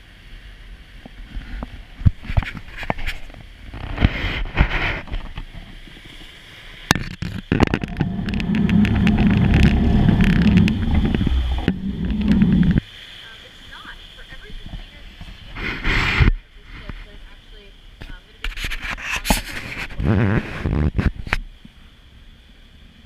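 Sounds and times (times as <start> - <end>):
low boat rumble: 0.0 - 23.0
wind on the microphone: 0.2 - 23.0.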